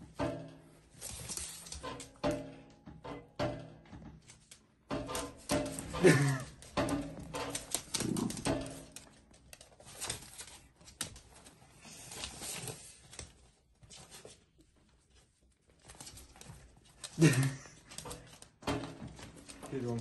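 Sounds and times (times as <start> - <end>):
dog claws and toy on wooden floor: 0.2 - 20.0.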